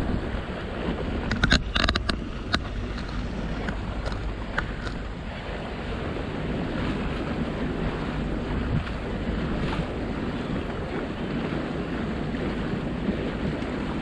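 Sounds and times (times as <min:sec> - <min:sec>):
water rushing along boat: 0:00.0 - 0:14.0
wind buffeting microphone: 0:00.0 - 0:14.0.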